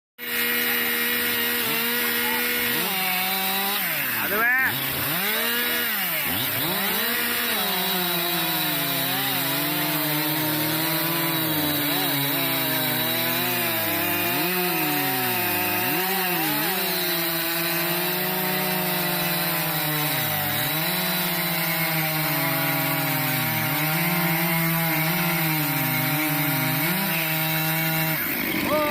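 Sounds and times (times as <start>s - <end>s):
chainsaw cutting wood: 0.2s - 28.9s.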